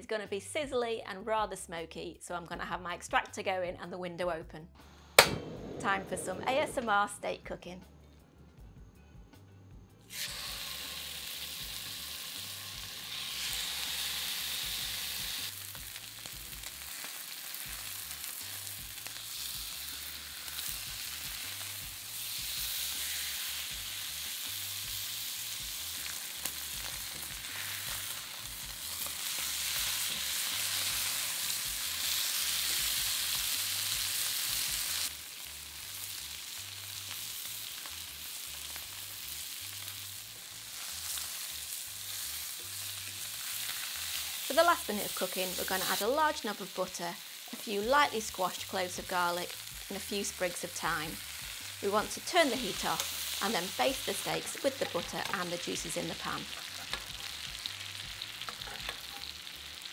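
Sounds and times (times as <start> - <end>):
steaks sizzling in a pan: 10.1 - 59.9.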